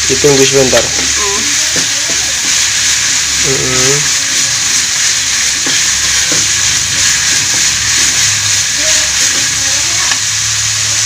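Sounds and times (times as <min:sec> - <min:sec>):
chili paste sizzling in a wok: 0:00.0 - 0:11.0
metal spatula stirring in a pan: 0:00.5 - 0:10.4.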